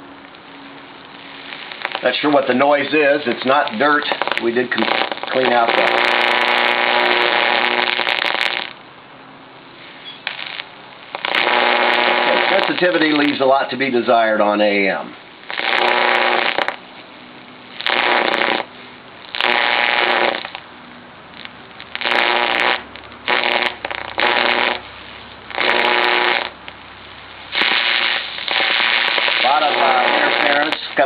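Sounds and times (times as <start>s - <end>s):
radio buzzing interference: 0.0s - 8.8s, 9.7s - 31.0s
radio hiss: 0.0s - 8.8s, 9.5s - 31.0s.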